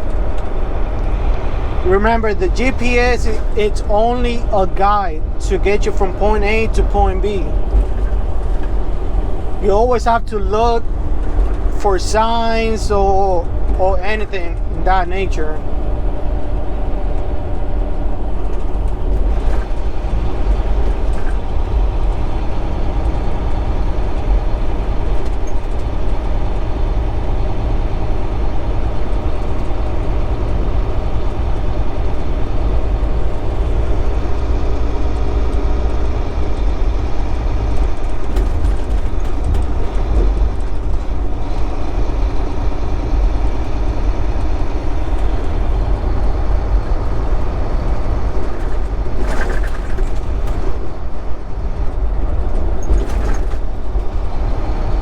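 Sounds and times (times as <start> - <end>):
road rumble: 0.0 - 55.0
truck engine drone: 0.0 - 55.0.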